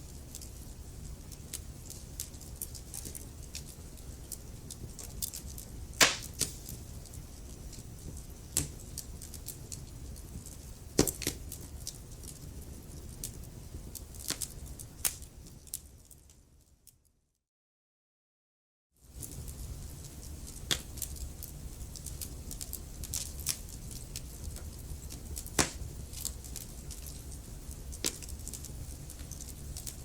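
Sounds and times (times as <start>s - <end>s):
wood fire crackling: 0.0s - 16.6s, 19.0s - 30.0s.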